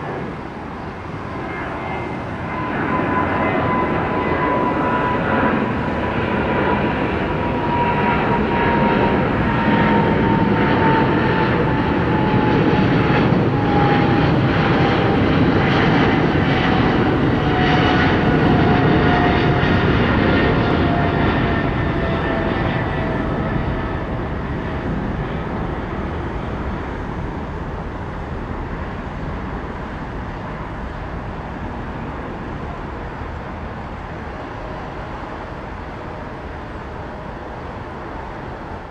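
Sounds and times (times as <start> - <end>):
jet airliner engine rumble: 0.0 - 38.9.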